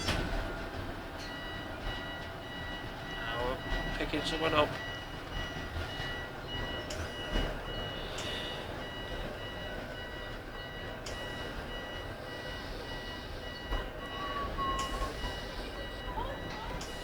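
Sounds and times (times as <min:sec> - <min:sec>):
high door warning beeps: 0:00.0 - 0:17.0
tram hum and rumble: 0:00.0 - 0:17.0.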